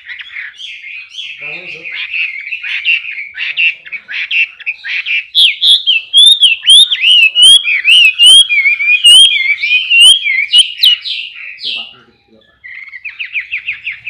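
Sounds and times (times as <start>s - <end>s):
bird chattering notes: 0.0s - 14.0s
bird whistling song: 0.0s - 14.0s.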